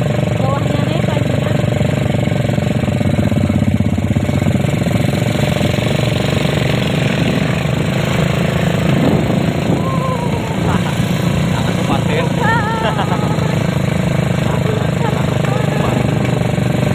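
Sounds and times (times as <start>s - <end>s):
atv engine running: 0.0s - 16.9s.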